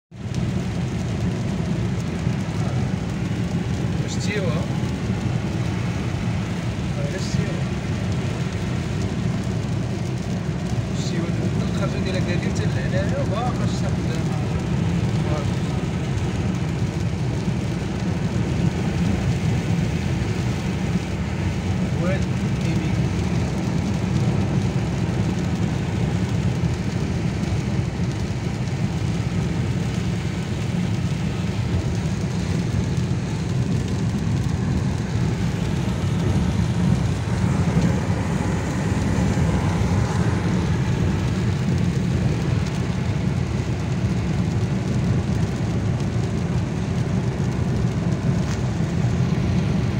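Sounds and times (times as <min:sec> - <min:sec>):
car engine and tyres rumbling: 0:00.0 - 0:49.9
hiss of wet tyres and rain: 0:00.1 - 0:49.9.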